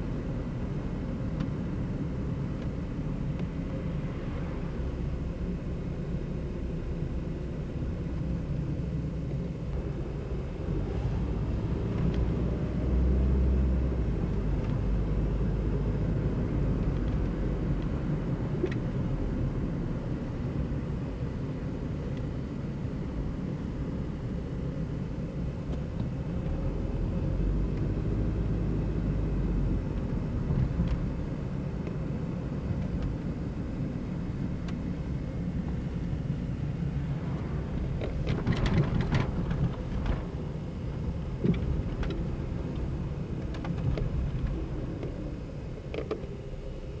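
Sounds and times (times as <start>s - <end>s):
car engine and road rumble: 0.0s - 47.0s.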